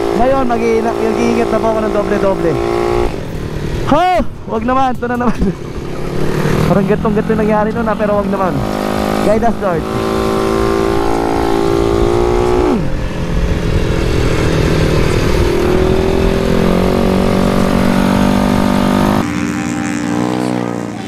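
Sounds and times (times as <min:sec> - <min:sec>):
high-revving scooter engine: 0:00.0 - 0:04.0, 0:05.4 - 0:21.0.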